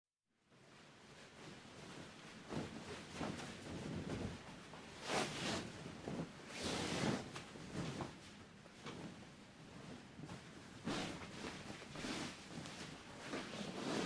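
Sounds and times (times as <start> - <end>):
rustling and handling objects: 0.5 - 14.0.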